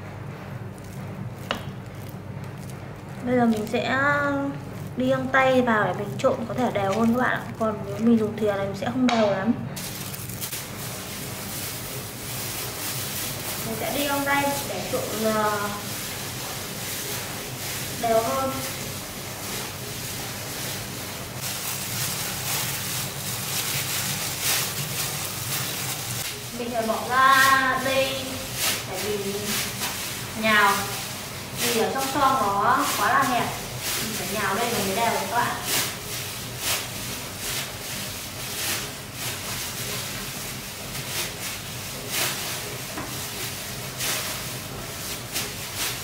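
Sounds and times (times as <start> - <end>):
gloved hands squishing dough: 0.0 - 9.1, 9.8 - 46.0
steady low hum: 0.0 - 46.0.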